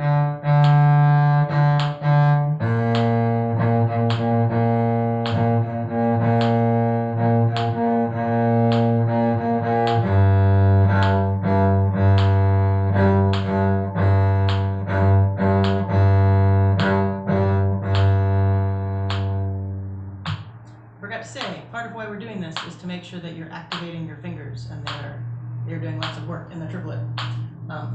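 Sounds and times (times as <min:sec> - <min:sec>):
cello bowing arpeggio: 0:00.0 - 0:21.0, 0:24.8 - 0:27.9.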